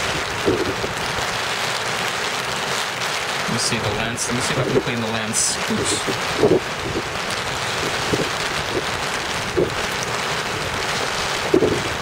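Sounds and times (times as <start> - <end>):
heavy rain on an umbrella: 0.0 - 12.0.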